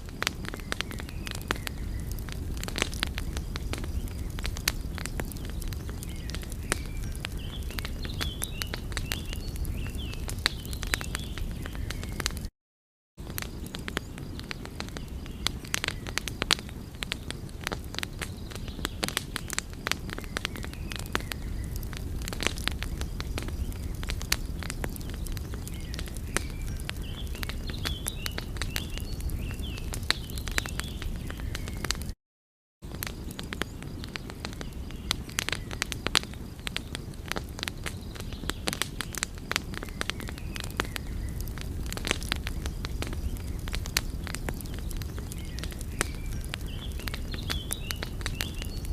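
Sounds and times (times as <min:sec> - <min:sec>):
wood fire crackling and popping: 0:00.0 - 0:12.5, 0:13.2 - 0:32.2, 0:32.8 - 0:48.9.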